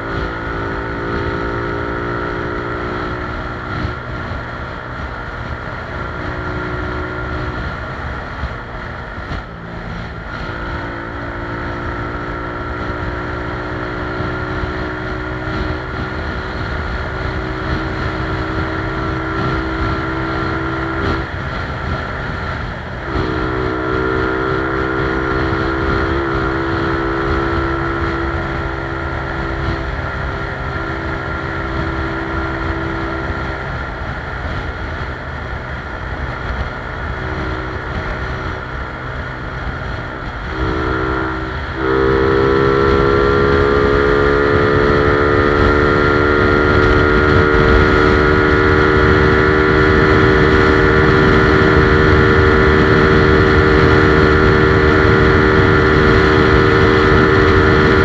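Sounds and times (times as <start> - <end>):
motorcycle engine at full throttle: 0.0 - 58.0
wind noise on microphone: 0.0 - 58.0.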